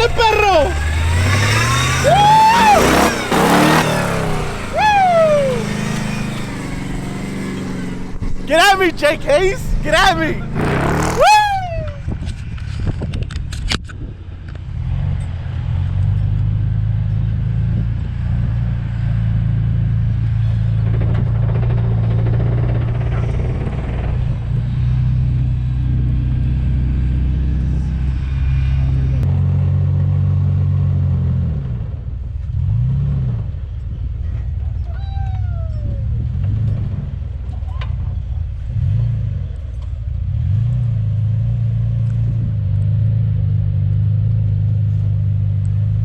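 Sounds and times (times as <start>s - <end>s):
off-road vehicle engine running: 0.0s - 46.0s.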